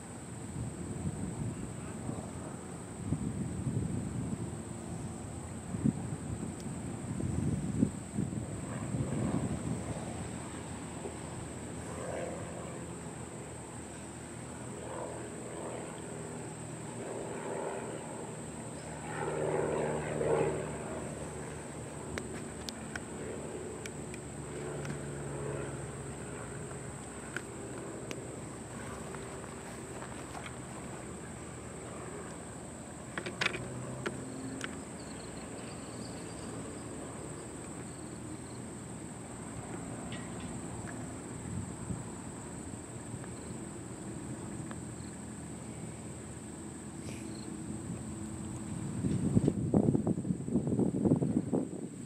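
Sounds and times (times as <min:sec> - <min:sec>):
small airplane engine droning: 0:00.0 - 0:52.0.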